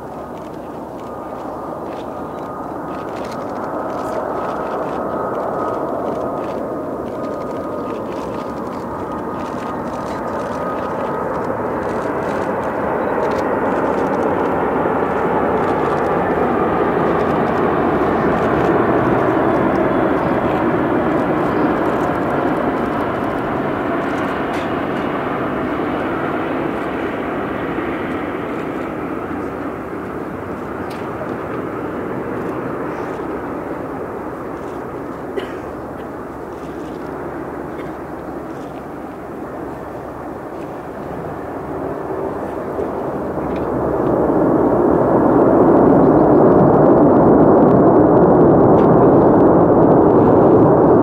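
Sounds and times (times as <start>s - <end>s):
jet aircraft flying past: 0.0s - 51.0s.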